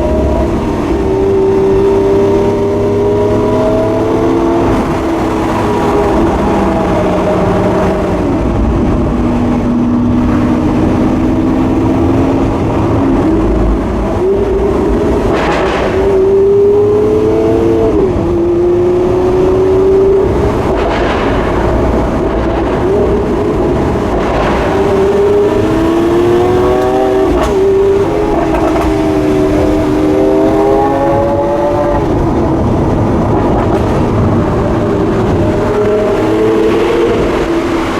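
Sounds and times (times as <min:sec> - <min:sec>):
car engine accelerating: 0:00.0 - 0:37.9.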